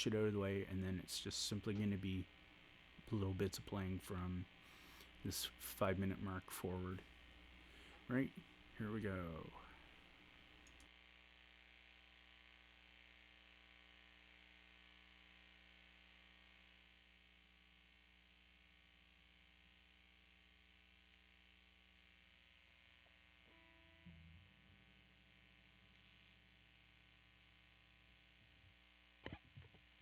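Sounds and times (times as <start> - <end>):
faint amplifier mains hum: 0.0 - 30.0.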